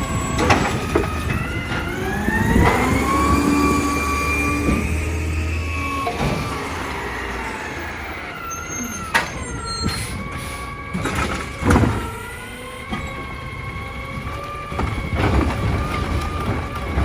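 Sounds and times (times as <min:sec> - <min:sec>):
garbage truck whine: 0:00.0 - 0:17.0.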